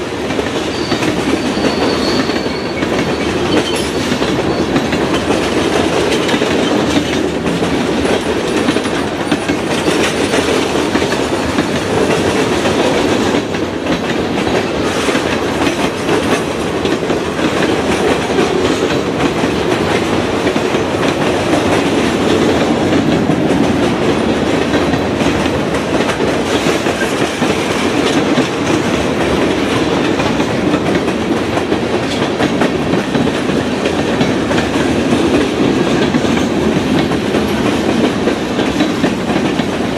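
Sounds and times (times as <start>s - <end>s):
freight train passing: 0.0s - 39.9s
train wheels clacking over rail joints: 0.0s - 39.9s.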